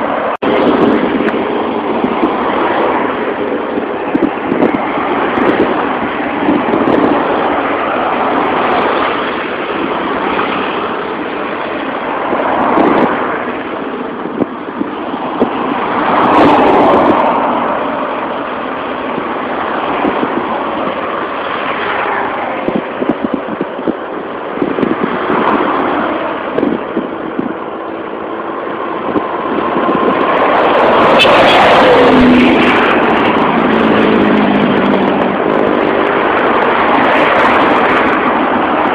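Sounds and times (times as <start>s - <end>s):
vehicles passing on highway: 0.0s - 38.9s.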